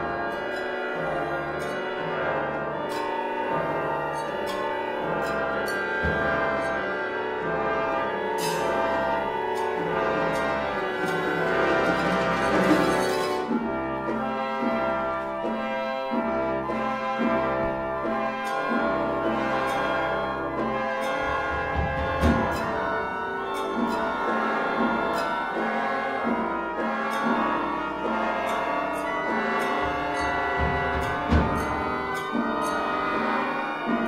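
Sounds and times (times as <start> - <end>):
brass chords: 0.0 - 34.0
orchestra playing dense chords: 0.0 - 34.0
percussion strikes: 0.0 - 34.0.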